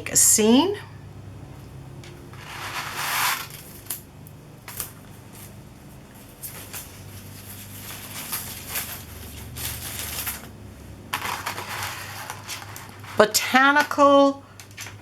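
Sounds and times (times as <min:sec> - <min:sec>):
plastic sheets rustling: 0:02.3 - 0:15.0.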